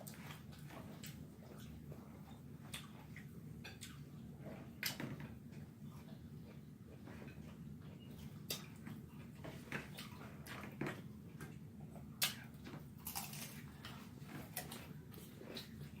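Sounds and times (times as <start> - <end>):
chewing and lip-smacking: 0.0 - 16.0.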